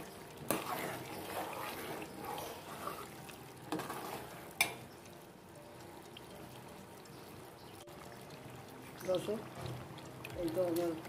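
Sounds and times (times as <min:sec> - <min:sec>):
oil sizzling: 0:00.0 - 0:11.0
spoon stirring frying herbs: 0:00.0 - 0:11.0.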